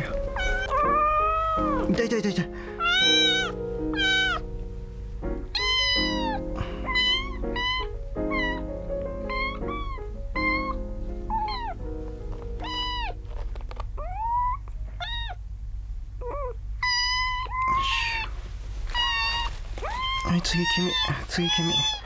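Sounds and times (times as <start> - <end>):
kittens mewing: 0.0 - 4.5, 5.5 - 13.3, 13.9 - 15.5, 16.2 - 22.0.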